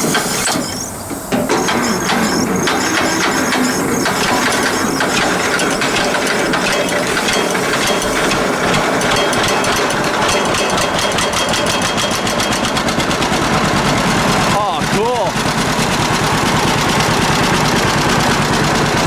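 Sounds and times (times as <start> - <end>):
tractor engine knocking: 0.0 - 19.0.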